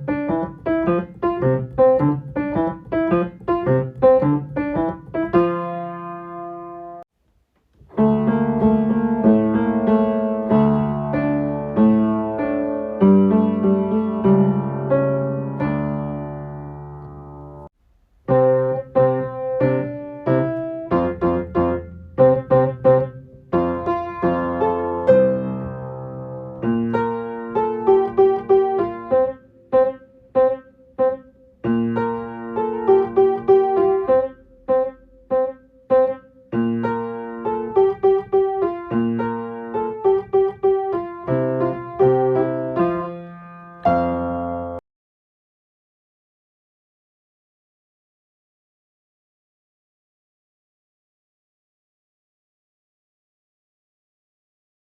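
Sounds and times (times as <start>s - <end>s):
piano playing children's song: 0.0s - 7.1s, 7.8s - 44.8s.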